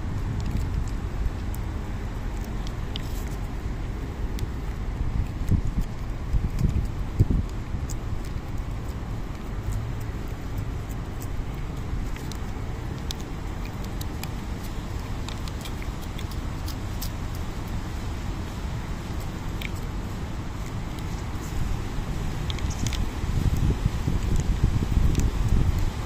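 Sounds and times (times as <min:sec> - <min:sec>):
steady low rumble: 0:00.0 - 0:26.0
cat licking wet clicks: 0:00.1 - 0:26.0.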